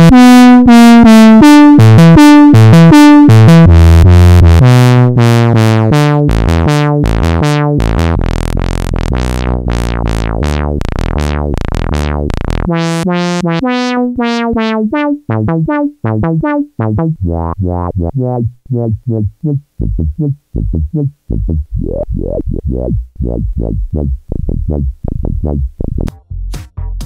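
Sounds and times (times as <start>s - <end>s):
buzzy synthesizer sequence: 0.0s - 26.1s.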